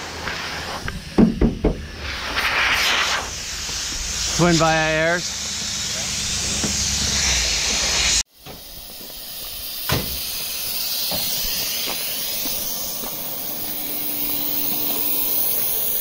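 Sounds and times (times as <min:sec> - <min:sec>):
compressed air hissing from a hose: 0:00.0 - 0:16.0.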